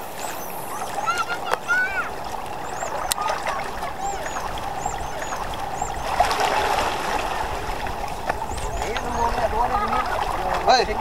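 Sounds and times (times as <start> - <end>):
waves lapping on rocks: 0.0 - 11.0.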